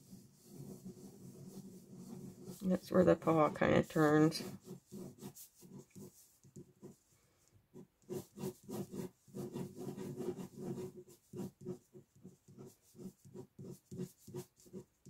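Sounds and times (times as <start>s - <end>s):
pen scratching on paper: 0.0s - 15.0s.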